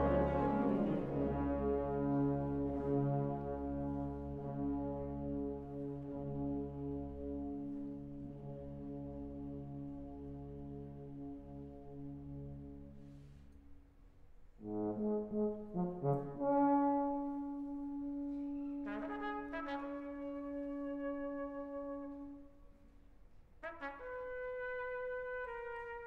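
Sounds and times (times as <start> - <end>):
wind band brass playing: 0.0 - 13.0, 14.6 - 22.6, 23.6 - 26.0.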